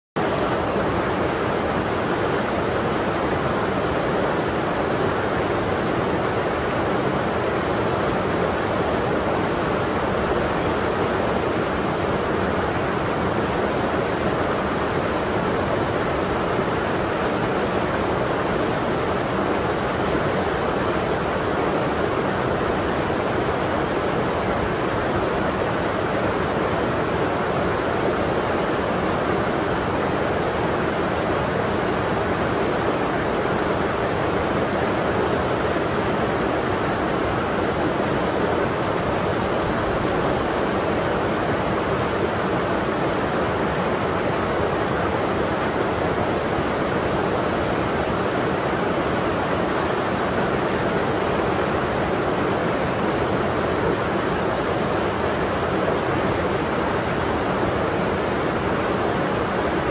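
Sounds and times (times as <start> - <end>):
stream water rushing: 0.2 - 59.9.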